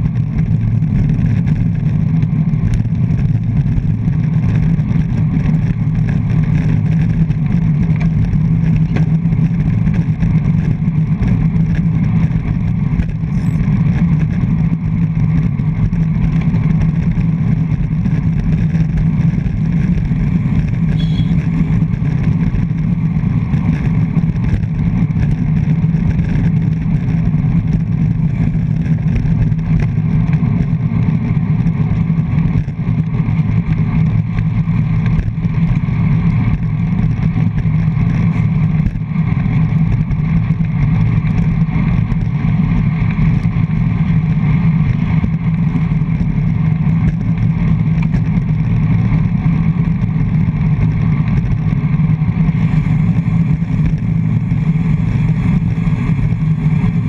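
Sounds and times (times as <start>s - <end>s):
wind rush: 0.0s - 41.3s, 47.5s - 57.0s
road rumble: 0.0s - 57.0s.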